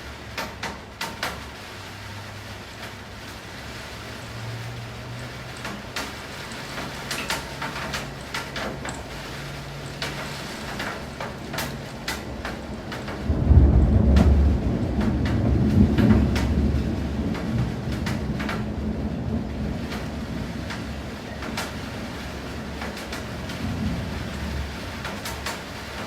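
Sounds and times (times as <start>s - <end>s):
rain drops tapping hard surfaces: 0.0s - 26.0s
thunder rumble: 0.7s - 26.0s.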